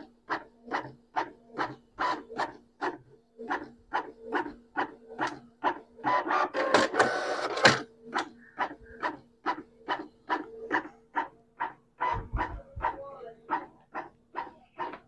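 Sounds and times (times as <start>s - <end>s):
printer paper feeding: 0.7s - 15.0s.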